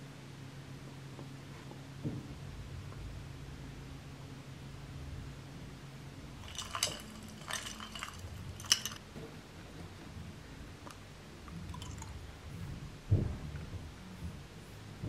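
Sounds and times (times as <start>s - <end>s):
low steady room hum: 0.0s - 15.0s.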